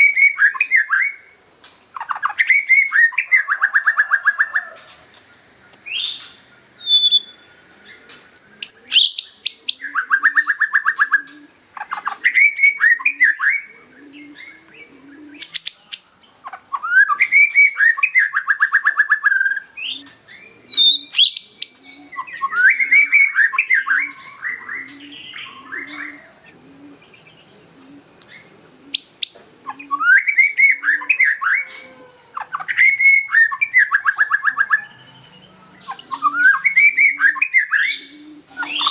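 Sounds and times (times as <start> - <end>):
bird whistles and buzzy trills: 0.0 - 38.9.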